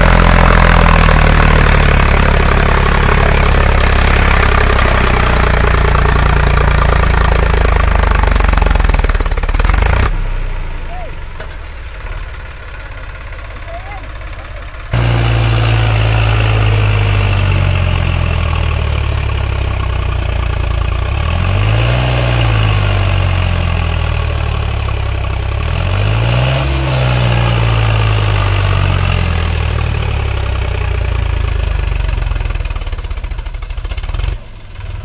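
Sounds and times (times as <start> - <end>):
tractor diesel engine labouring: 0.0 - 35.0.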